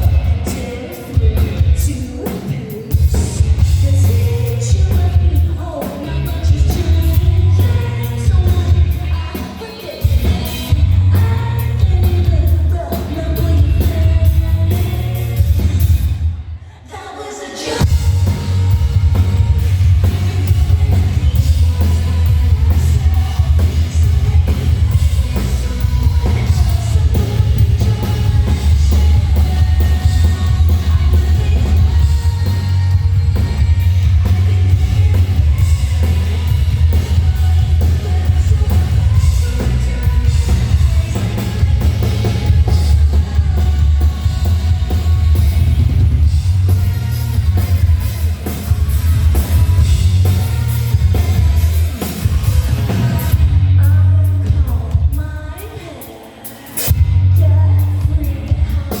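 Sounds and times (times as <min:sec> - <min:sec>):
heavy bass: 0:00.0 - 0:09.4, 0:10.0 - 0:16.4, 0:17.8 - 0:55.3, 0:56.9 - 0:58.9
live rock band playing loud: 0:00.0 - 0:16.6, 0:17.8 - 0:59.0
woman singing: 0:00.0 - 0:59.0.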